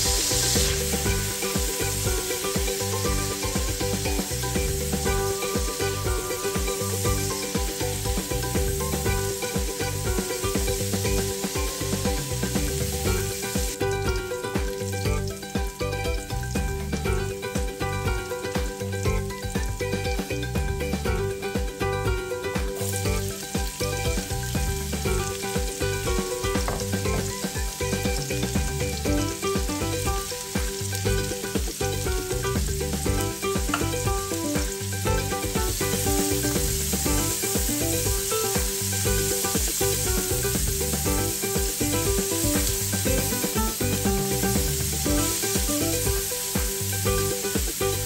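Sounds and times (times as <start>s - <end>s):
background music with beat: 0.0s - 48.0s
vegetables sizzling in a wok: 0.0s - 48.0s.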